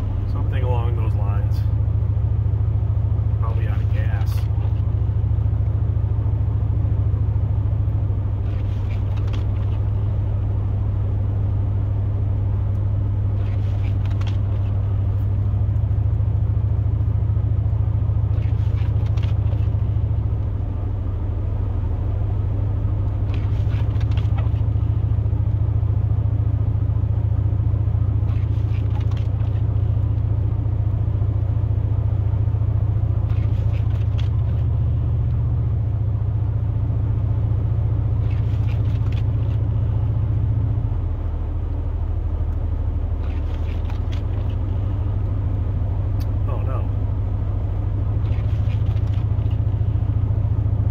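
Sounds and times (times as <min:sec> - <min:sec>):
pickup truck driving drone: 0:00.0 - 0:50.9.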